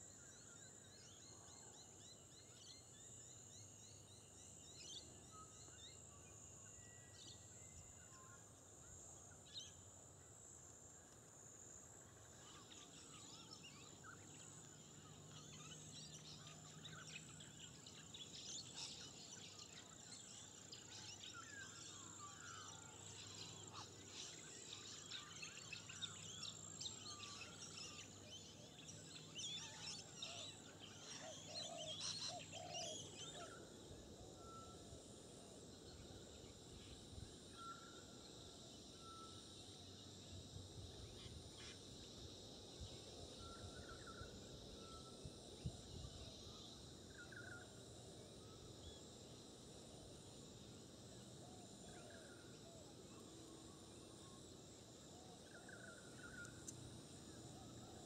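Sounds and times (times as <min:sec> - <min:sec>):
steady high-pitched hum: 0:00.0 - 0:58.0.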